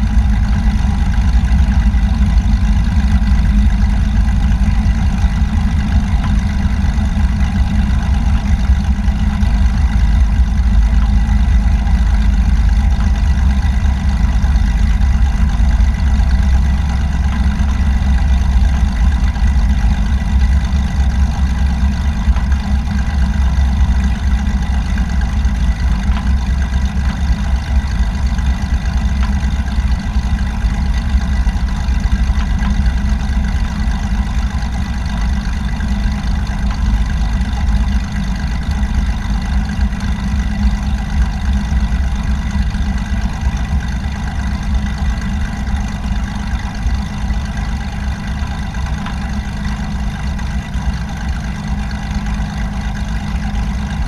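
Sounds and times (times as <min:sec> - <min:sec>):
faint steady whine: 0:00.0 - 0:54.0
light aircraft engine droning: 0:00.0 - 0:54.0.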